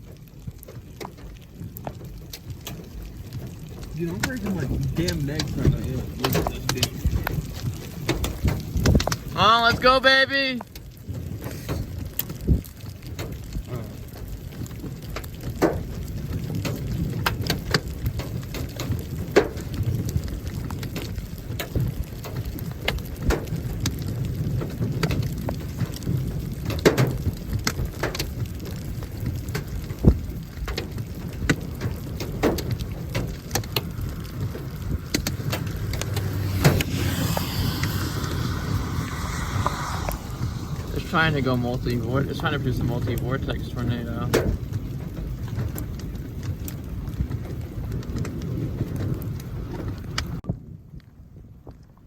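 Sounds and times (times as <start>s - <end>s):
raindrops ticking on a vehicle: 0.0s - 36.6s, 37.2s - 52.0s
car low rumble: 0.0s - 50.5s.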